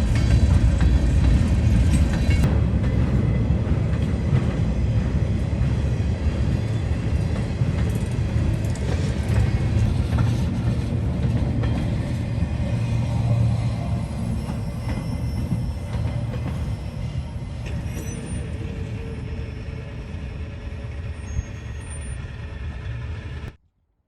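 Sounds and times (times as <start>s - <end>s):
freight train wheels rumbling: 0.0s - 23.6s.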